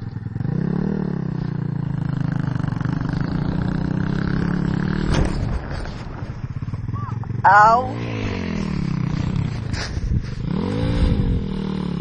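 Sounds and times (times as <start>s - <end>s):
small motorbike engine revving: 0.0s - 5.6s, 6.4s - 12.0s.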